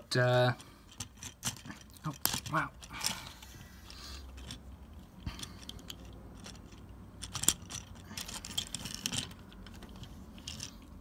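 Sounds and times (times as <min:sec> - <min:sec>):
plastic figure clicking and rattling: 0:00.8 - 0:11.0.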